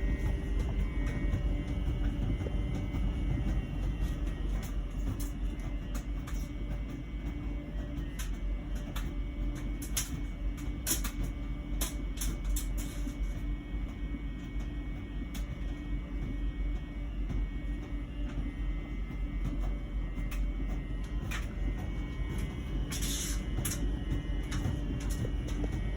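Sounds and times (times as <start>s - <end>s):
dryer buzzing hum: 0.0s - 25.9s.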